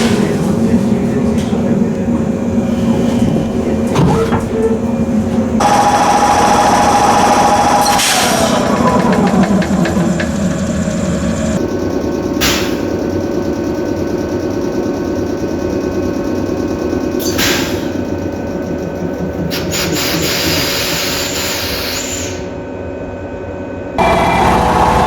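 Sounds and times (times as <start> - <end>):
air compressor running: 0.0 - 22.6.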